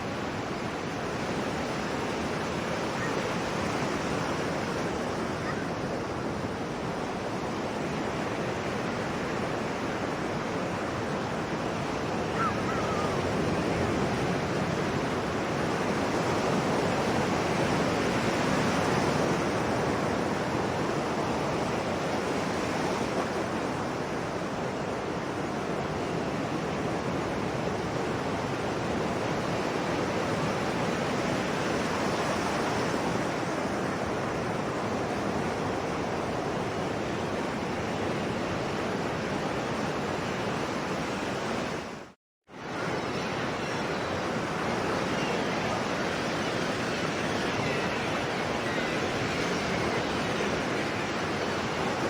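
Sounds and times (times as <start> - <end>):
sea waves washing ashore: 0.0 - 52.0.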